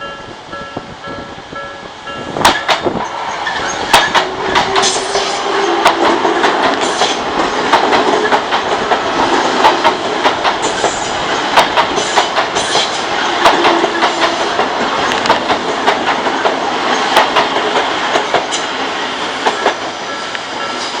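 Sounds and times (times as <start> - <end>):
train rumbling past: 0.0 - 21.0
wheels clacking over rail joints: 2.4 - 21.0.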